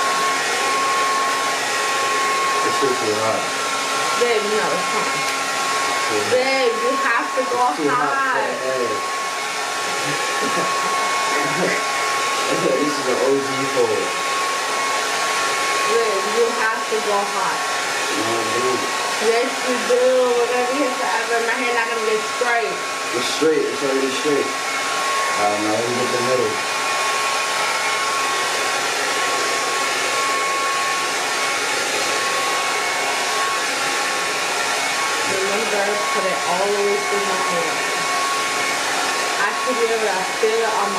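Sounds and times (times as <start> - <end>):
hair dryer whining: 0.0 - 40.9.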